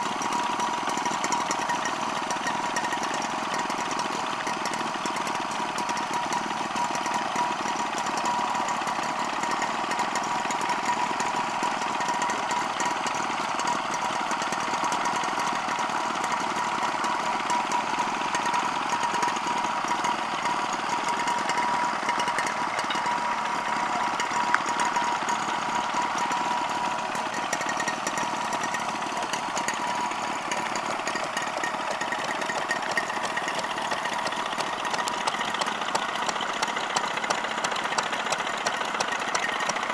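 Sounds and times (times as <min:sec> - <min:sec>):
small engines whining: 0:00.0 - 0:39.9.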